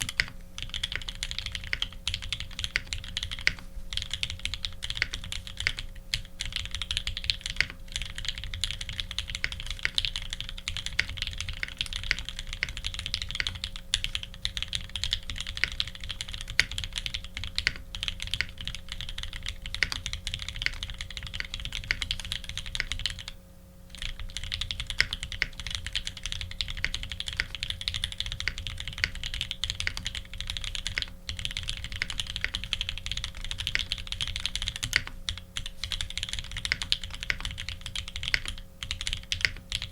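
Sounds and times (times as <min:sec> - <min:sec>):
faint steady hum: 0:00.0 - 0:39.9
fast typing on mechanical keyboard: 0:00.0 - 0:39.9.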